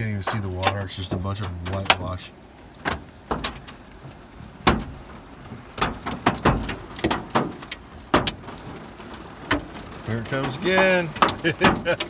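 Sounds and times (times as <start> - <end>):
hailstones striking a car: 0.0 - 12.0.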